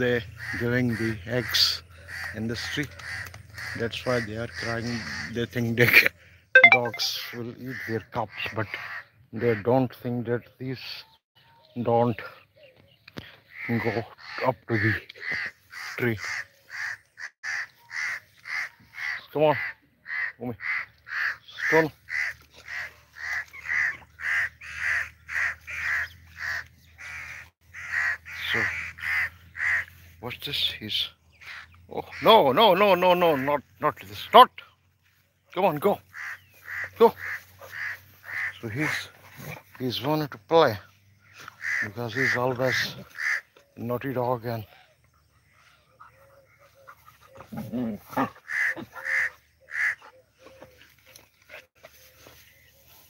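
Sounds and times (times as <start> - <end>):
birds harsh alarm calls: 0.2 - 5.5, 12.4 - 51.1.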